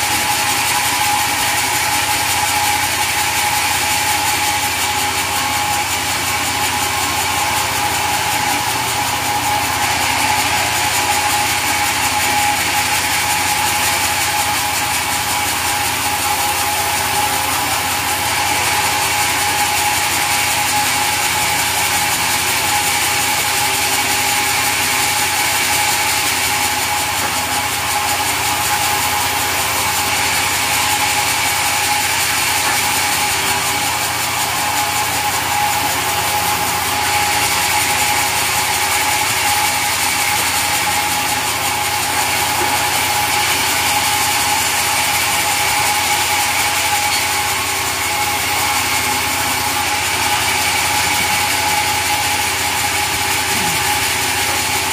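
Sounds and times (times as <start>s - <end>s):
constant machine whine: 0.0s - 54.9s
sawmill machinery running: 0.0s - 54.9s.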